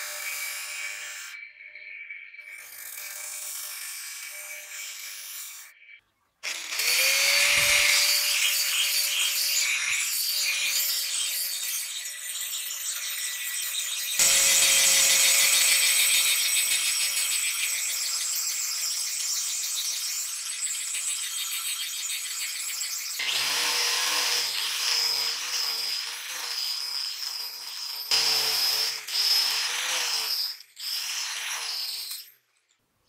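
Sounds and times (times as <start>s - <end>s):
angle grinder grinding steel: 0.0s - 32.5s.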